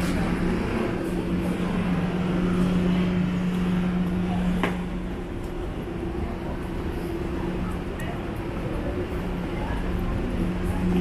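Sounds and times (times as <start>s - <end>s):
traffic engine hum: 0.0s - 11.0s.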